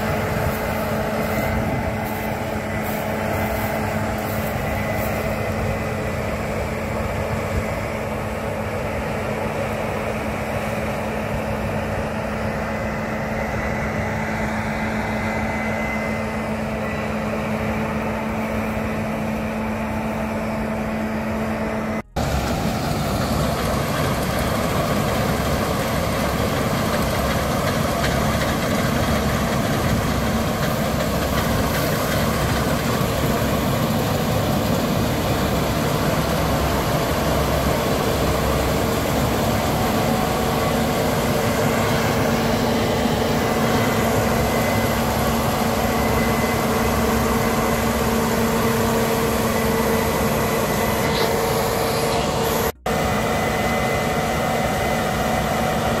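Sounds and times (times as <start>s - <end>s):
combine harvester droning: 0.0s - 56.0s.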